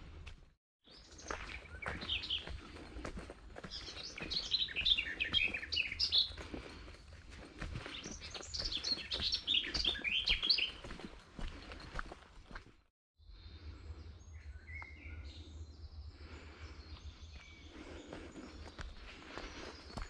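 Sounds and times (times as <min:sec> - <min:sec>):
footsteps on path: 0:00.0 - 0:12.9, 0:16.5 - 0:20.0
songbird chirping: 0:00.9 - 0:20.0.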